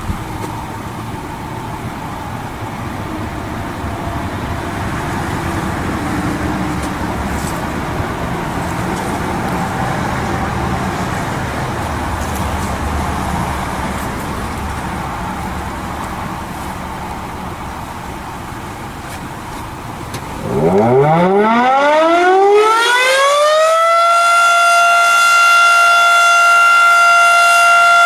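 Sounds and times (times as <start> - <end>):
passing vehicle: 0.0 - 25.4.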